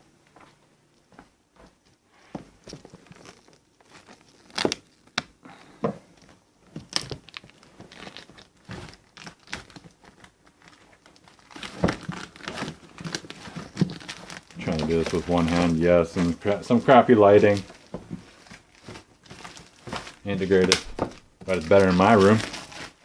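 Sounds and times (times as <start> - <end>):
packaging crinkling and tearing: 2.7 - 23.0.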